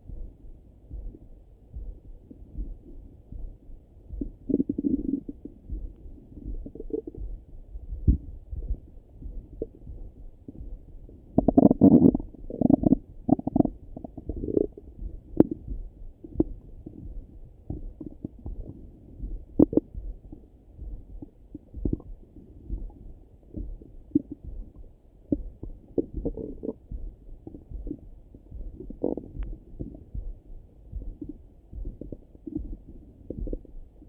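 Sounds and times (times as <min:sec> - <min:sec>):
stomach gurgles: 0:04.2 - 0:20.4, 0:21.0 - 0:34.0.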